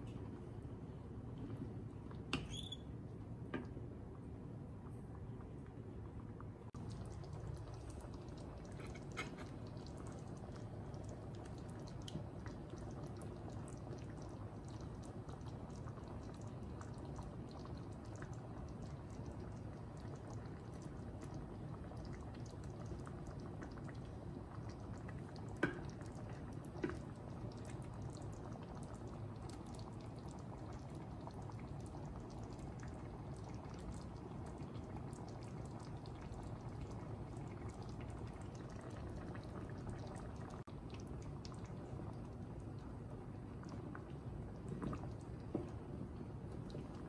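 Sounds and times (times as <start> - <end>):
thick sauce bubbling: 0.0 - 47.0.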